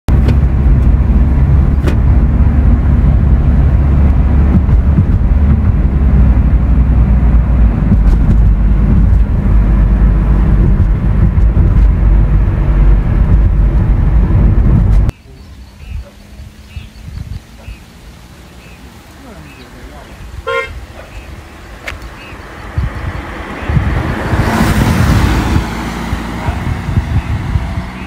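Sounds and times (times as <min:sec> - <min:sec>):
car engine and tyre rumble: 0:00.1 - 0:28.0.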